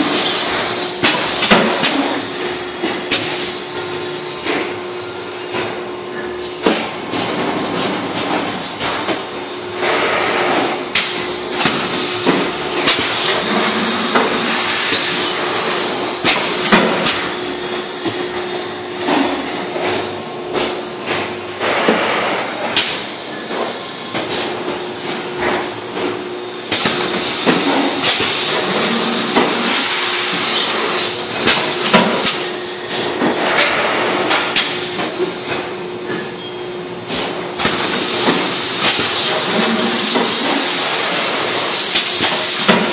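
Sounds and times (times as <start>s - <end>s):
machinery hum: 0.0s - 42.9s.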